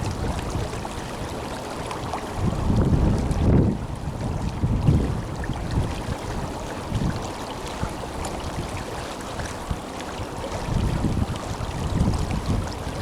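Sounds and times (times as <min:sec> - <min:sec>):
river water rushing: 0:00.0 - 0:13.0
wind buffeting microphone: 0:00.0 - 0:13.0.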